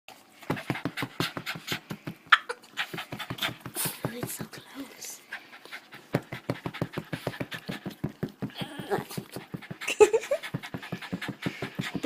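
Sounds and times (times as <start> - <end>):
dog panting: 0.4 - 12.0.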